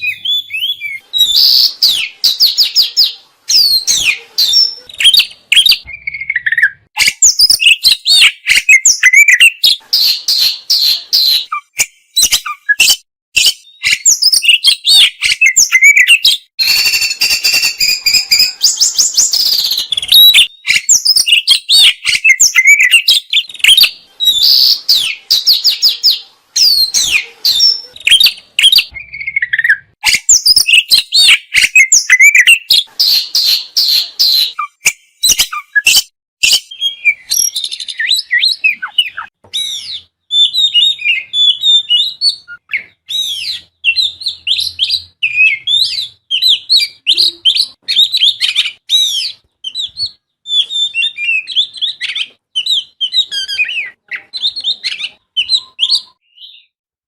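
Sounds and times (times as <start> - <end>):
bird singing whistles and trills: 0.0 - 56.8.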